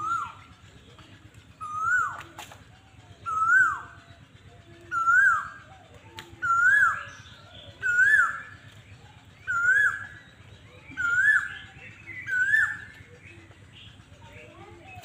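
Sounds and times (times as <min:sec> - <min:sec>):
bird whistling call: 0:00.0 - 0:01.0, 0:01.6 - 0:15.0.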